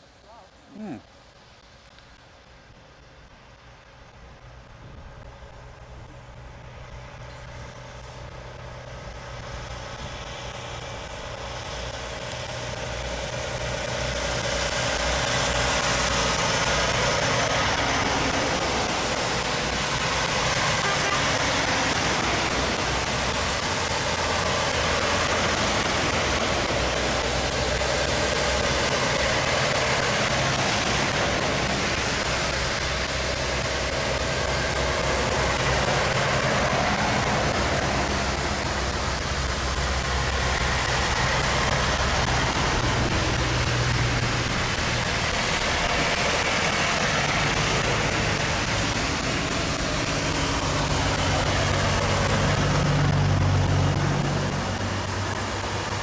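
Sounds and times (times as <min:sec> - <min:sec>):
diesel truck engines: 0:00.0 - 0:56.0.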